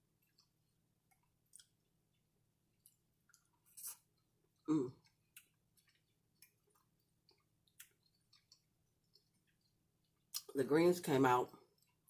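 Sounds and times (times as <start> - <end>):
person chewing: 0.0 - 10.6, 11.5 - 12.0.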